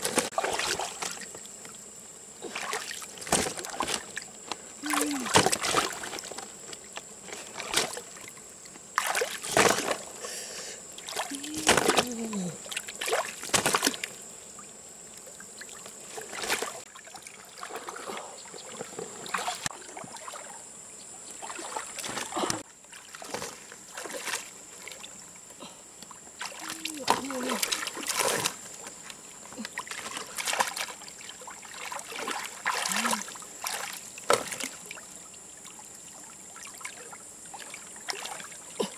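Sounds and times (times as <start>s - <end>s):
water splashing and sloshing: 0.0s - 1.8s, 2.4s - 10.2s, 11.0s - 38.9s.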